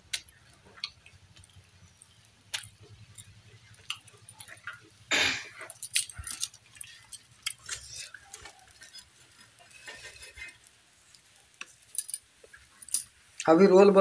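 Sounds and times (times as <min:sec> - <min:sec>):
fingers picking food from steel plate: 0:00.1 - 0:13.1.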